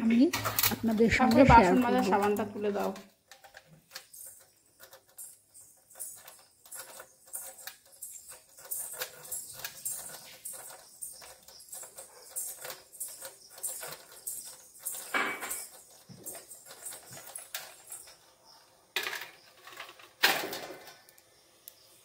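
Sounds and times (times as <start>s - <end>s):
items clattering: 0.0s - 21.4s
small items clinking and knocking: 0.0s - 21.4s.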